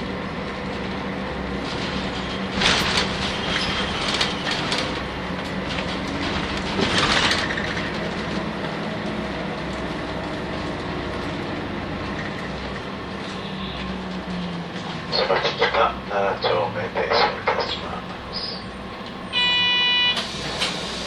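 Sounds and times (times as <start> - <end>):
road and body noise: 0.0 - 19.6
bus engine tone: 0.0 - 21.0.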